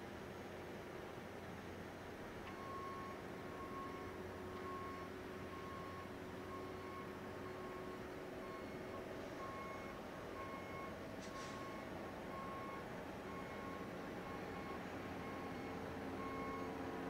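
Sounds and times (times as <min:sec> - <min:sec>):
low engine hum: 0:00.0 - 0:17.0
backup alarm beeping: 0:02.6 - 0:16.8.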